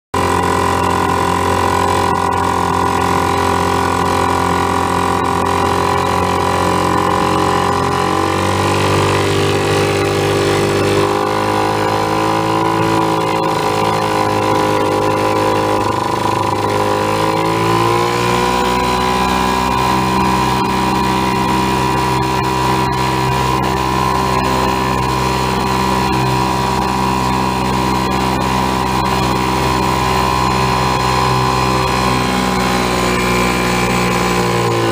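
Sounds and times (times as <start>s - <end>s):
outboard motor running: 0.1s - 34.9s.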